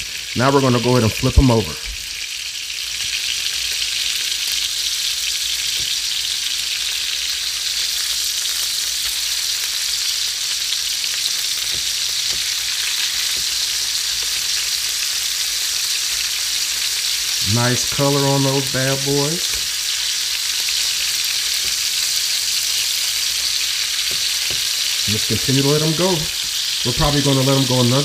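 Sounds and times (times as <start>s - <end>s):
fish sizzling in a frying pan: 0.0s - 28.0s.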